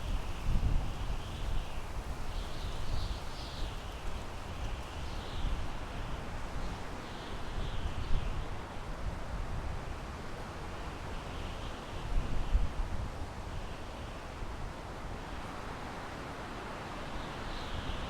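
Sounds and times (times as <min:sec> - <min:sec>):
wind blowing through pine trees: 0:00.0 - 0:18.0
wind rumble on microphone: 0:00.0 - 0:18.0.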